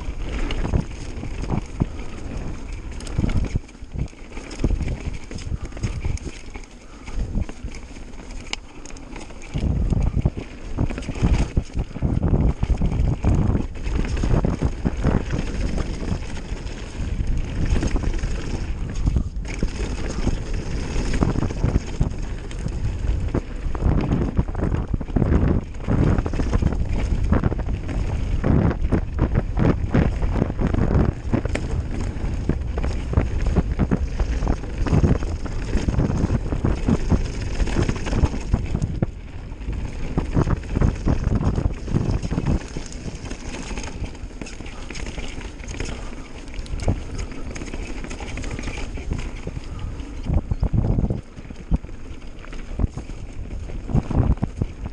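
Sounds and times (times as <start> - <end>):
bike rattling and knocking: 0.0 - 54.9
bike tyres on dirt: 0.0 - 54.9
wind buffeting microphone: 0.0 - 54.9.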